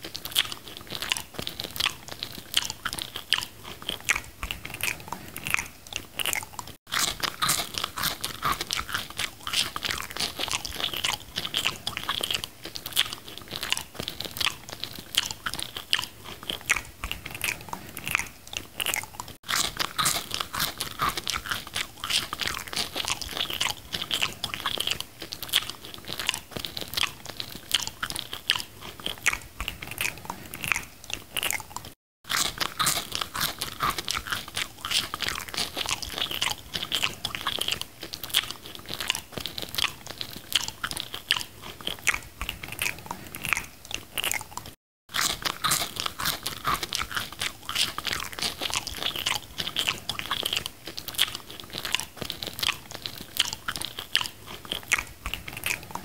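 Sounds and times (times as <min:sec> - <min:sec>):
chewing and crunching: 0:00.0 - 0:56.0
wet mouth clicks: 0:00.0 - 0:56.0.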